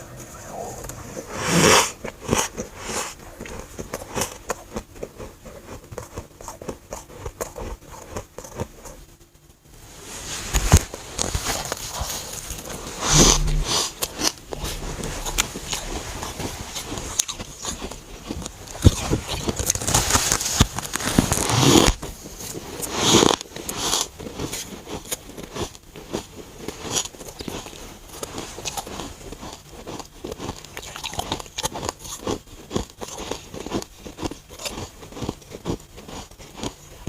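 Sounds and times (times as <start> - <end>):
chewing crunchy frost: 0.0 - 9.1, 10.7 - 37.0.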